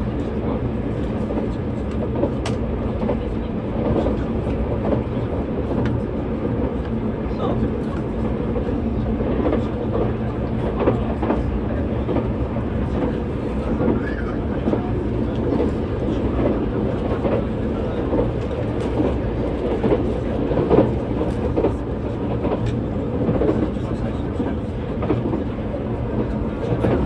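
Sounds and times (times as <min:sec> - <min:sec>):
train wheels rumbling: 0:00.0 - 0:27.0
sharp clicks from rails: 0:00.1 - 0:27.0.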